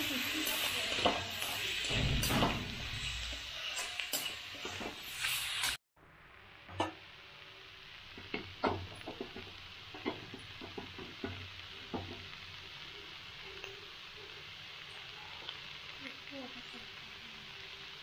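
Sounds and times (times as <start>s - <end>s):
vegetables sizzling in pan: 0.0s - 18.0s.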